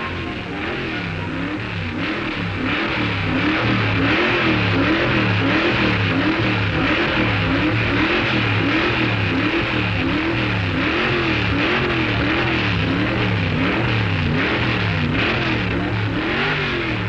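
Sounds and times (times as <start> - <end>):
drag racing car engine revving: 0.0 - 17.0.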